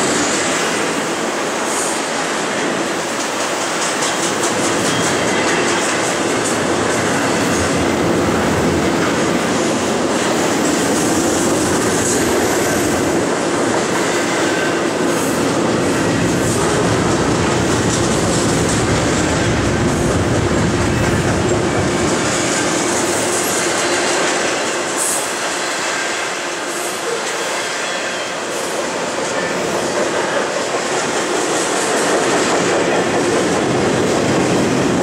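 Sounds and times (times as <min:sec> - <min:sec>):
train wheels rolling on rail: 0:00.0 - 0:35.0.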